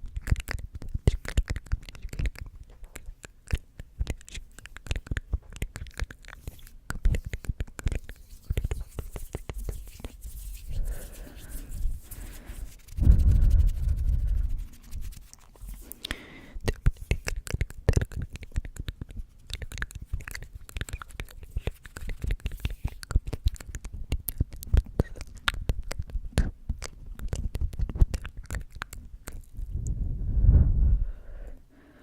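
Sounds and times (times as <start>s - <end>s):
close clicks taps and crackles: 0.0s - 10.8s, 14.8s - 29.8s.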